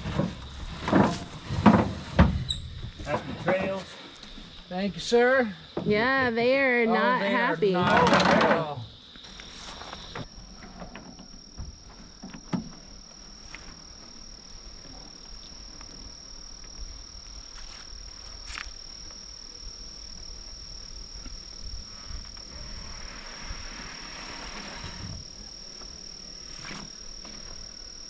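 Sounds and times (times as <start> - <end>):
night insects trilling: 0.0 - 28.0.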